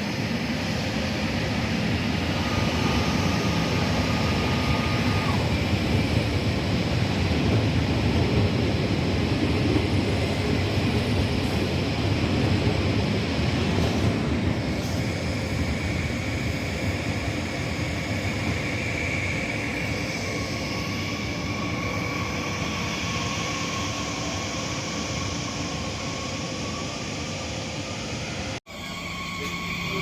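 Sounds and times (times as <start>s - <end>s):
train rumbling with high whine: 0.0s - 30.0s.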